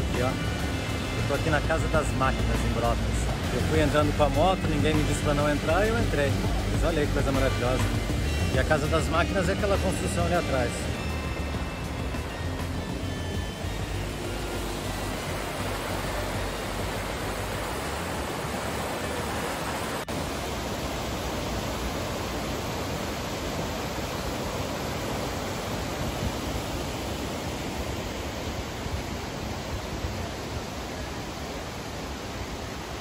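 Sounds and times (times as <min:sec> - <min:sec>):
roar of waterfall and rapids: 0:00.0 - 0:33.0.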